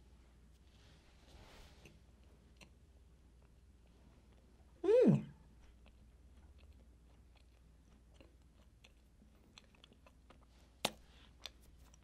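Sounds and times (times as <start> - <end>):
chewing soft cookie: 0.3 - 12.0.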